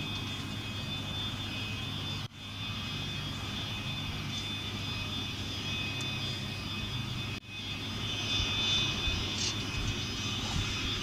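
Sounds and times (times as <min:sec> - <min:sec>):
distant jet engines whining: 0:00.0 - 0:11.0.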